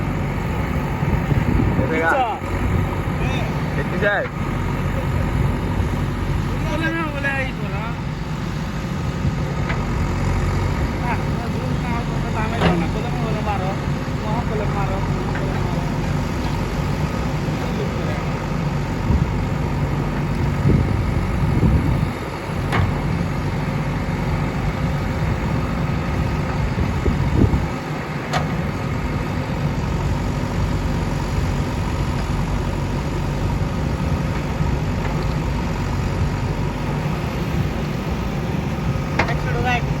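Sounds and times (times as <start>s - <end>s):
engine drone: 0.0s - 40.0s.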